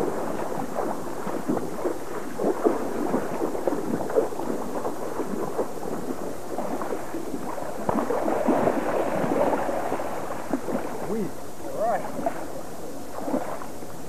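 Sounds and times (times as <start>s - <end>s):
fish splashing in water: 0.0s - 13.8s.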